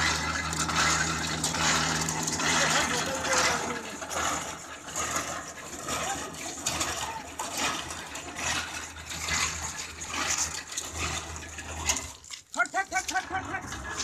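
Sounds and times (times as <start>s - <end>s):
electric winch motor hum: 0.0s - 14.0s.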